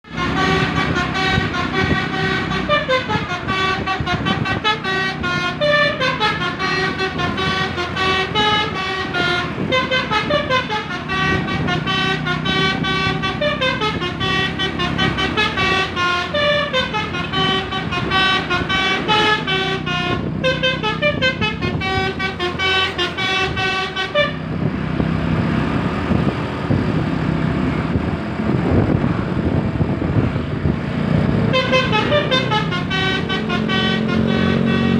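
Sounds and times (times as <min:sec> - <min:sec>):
bus air horn playing a melody: 0:00.0 - 0:24.7, 0:31.4 - 0:34.9
bus engine running: 0:00.0 - 0:34.9.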